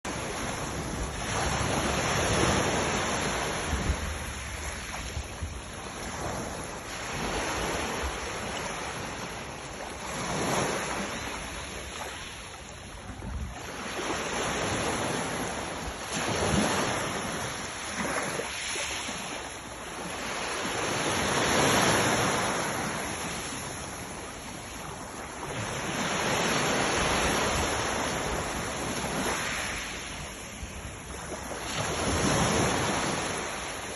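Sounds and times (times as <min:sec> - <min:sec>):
sea waves breaking: 0:00.1 - 0:33.9.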